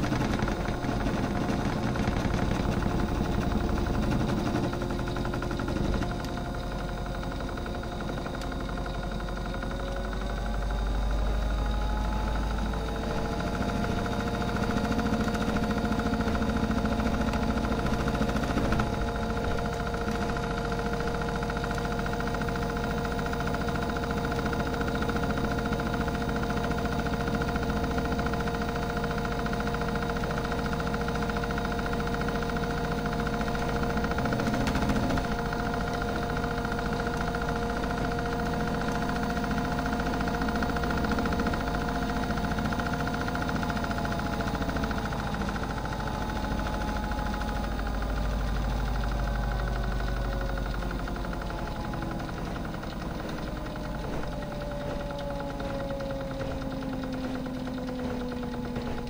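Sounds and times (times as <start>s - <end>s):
toy washing machine humming: 0.0s - 59.0s.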